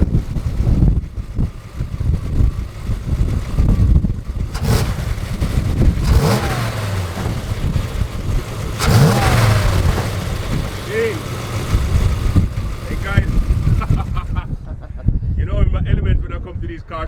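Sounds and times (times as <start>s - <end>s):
car engine idling and revving: 0.0s - 14.6s.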